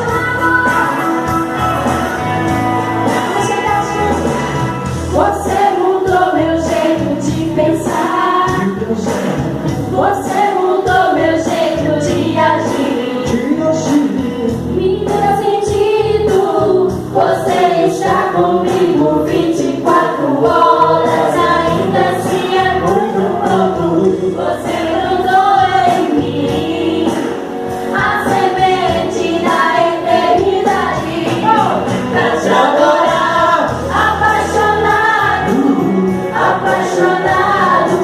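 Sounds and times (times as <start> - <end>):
band accompaniment: 0.0 - 38.0
choir singing a gospel hymn: 0.0 - 38.0.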